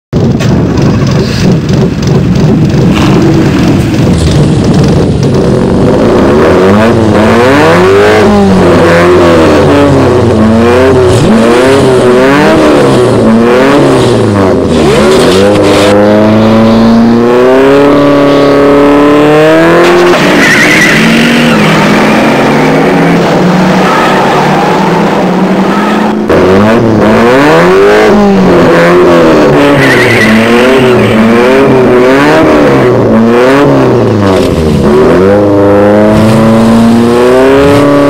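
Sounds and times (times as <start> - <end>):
sports car engines accelerating: 0.2 - 38.0.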